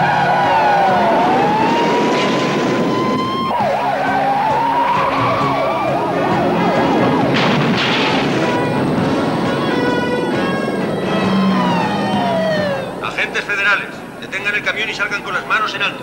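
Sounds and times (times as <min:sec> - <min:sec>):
police siren wailing and yelping: 0:00.0 - 0:07.4, 0:08.3 - 0:14.2.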